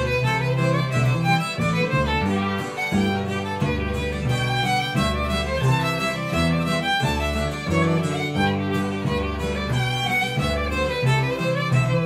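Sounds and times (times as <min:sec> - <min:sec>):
fiddle melody: 0:00.0 - 0:12.0
plucked double bass: 0:00.0 - 0:12.0
strummed guitar chords: 0:00.0 - 0:12.0.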